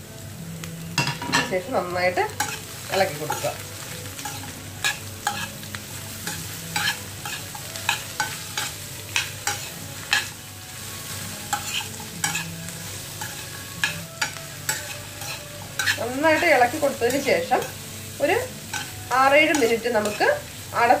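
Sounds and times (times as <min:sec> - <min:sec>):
food sizzling: 0:00.0 - 0:21.0
metal spoon scraping frying pan: 0:02.3 - 0:10.4, 0:11.0 - 0:20.6.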